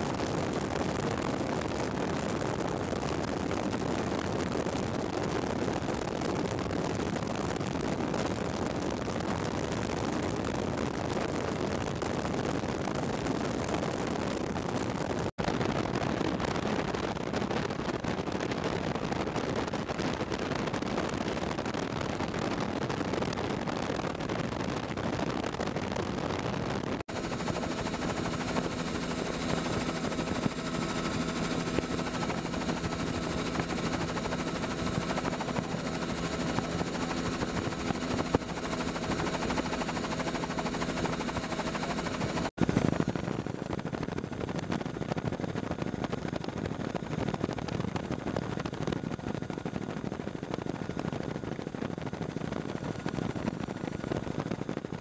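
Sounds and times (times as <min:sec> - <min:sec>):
helicopter rotor chop and engine: 0:00.0 - 0:24.3, 0:27.0 - 0:55.0
wind noise: 0:00.0 - 0:55.0.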